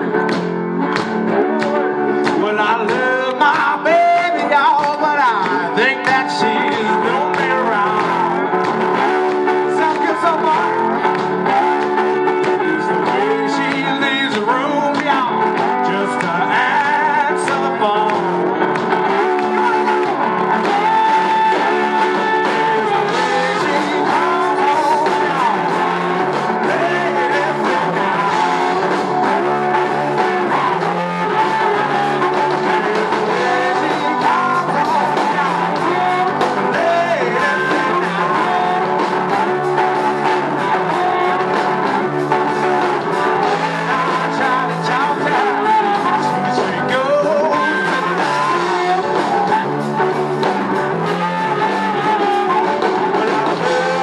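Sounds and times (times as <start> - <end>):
drums: 0.0 - 54.0
electric bass: 0.0 - 54.0
slide guitar: 0.0 - 54.0.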